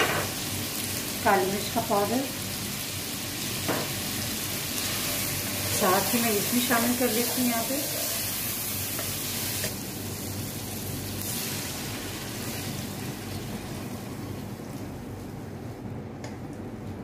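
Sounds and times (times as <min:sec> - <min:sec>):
food sizzling in a pan: 0:00.0 - 0:14.9.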